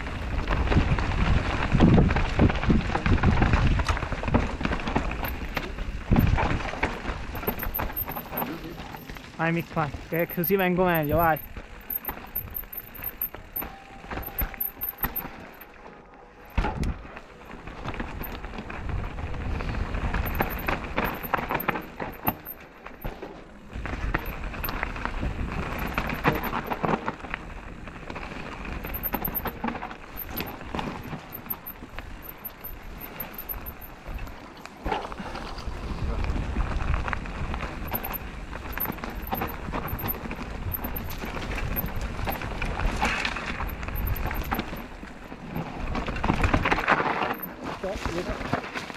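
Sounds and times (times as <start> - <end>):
bike rattling over bumps: 0.0 - 48.9
bike tyres on dirt and stones: 0.0 - 48.9.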